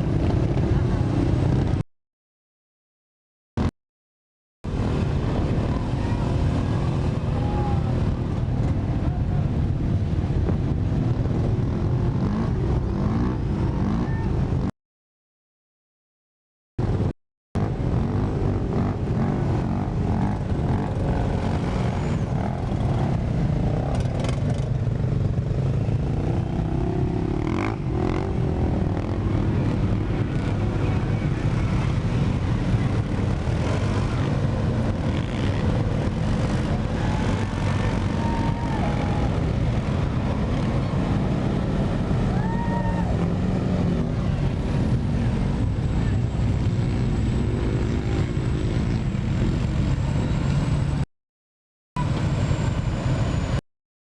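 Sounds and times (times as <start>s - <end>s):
vehicle engines rumbling: 0.0s - 1.8s, 4.7s - 14.7s, 16.8s - 51.0s, 52.0s - 53.6s.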